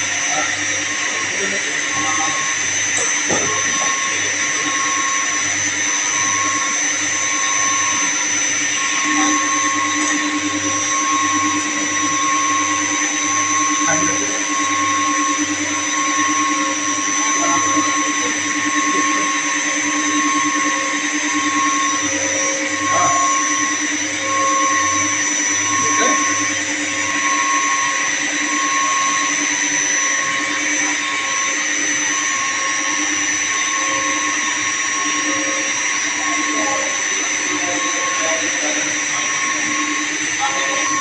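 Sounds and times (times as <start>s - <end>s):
high whine: 0.0s - 41.0s
pump and motor machinery drone: 0.0s - 41.0s.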